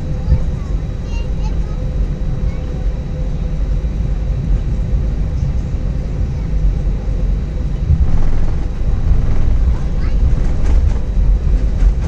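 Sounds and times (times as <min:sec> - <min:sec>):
jet engines at high thrust: 0:00.0 - 0:12.0.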